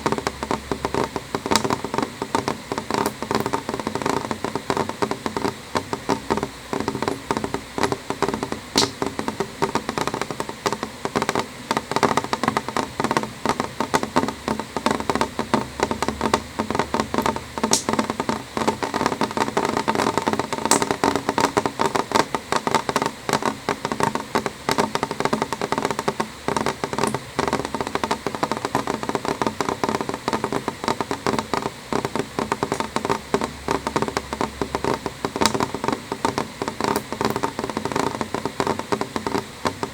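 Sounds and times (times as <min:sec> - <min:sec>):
rain tapping on window glass: 0:00.0 - 0:39.9.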